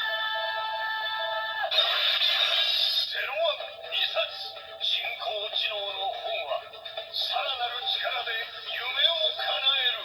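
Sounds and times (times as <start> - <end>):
toy belt electronic music: 0.0 - 10.0.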